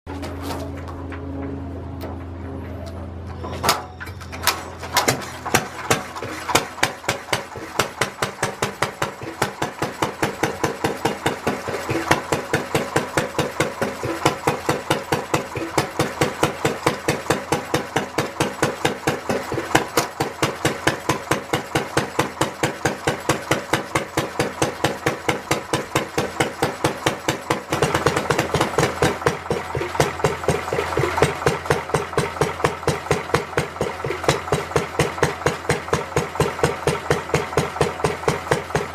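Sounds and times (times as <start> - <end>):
stationary engine starting up: 3.3 - 22.8, 26.1 - 38.9.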